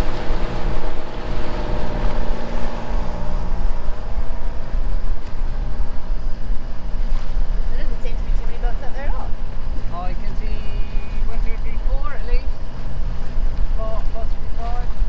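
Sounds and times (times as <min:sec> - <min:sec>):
boat engine running: 0:00.0 - 0:15.0
water rushing past hull: 0:00.0 - 0:15.0
wind buffeting microphone: 0:00.0 - 0:15.0.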